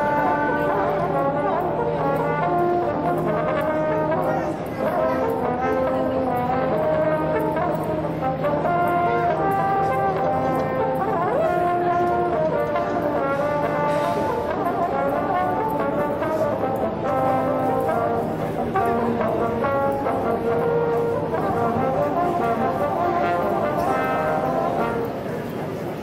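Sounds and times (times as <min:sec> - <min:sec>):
brass instruments playing melody: 0:00.0 - 0:26.0
crowd murmur: 0:00.0 - 0:26.0.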